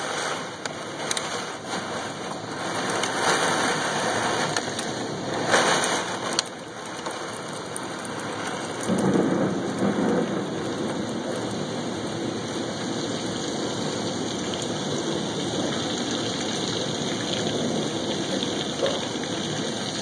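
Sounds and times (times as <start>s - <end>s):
heavy rain on tile roof: 0.0s - 20.0s.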